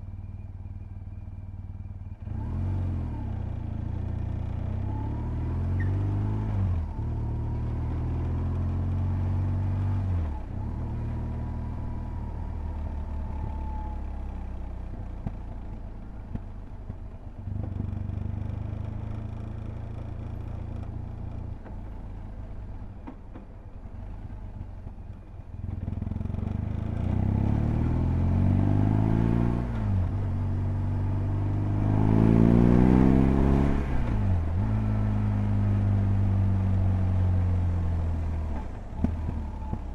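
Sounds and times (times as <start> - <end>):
motorcycle engine accelerating: 1.2 - 39.9.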